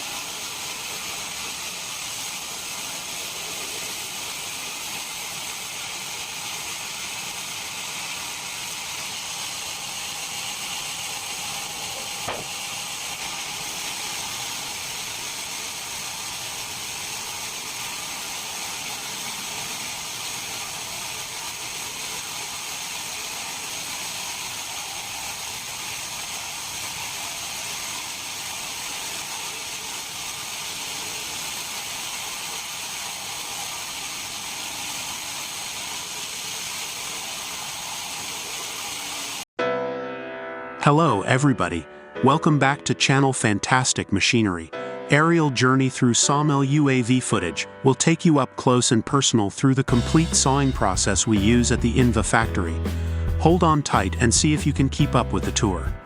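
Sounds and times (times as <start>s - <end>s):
machinery hiss: 0.0s - 39.5s, 49.9s - 56.0s.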